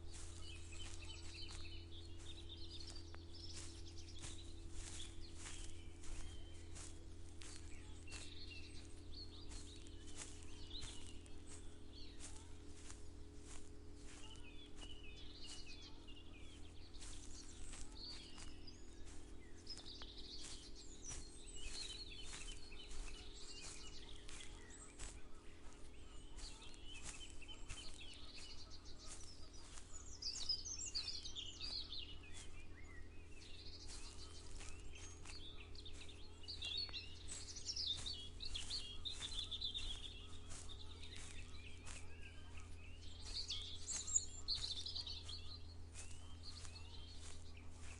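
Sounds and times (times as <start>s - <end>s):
birds chirping and singing: 0.0s - 47.9s
footsteps walking: 0.0s - 47.9s.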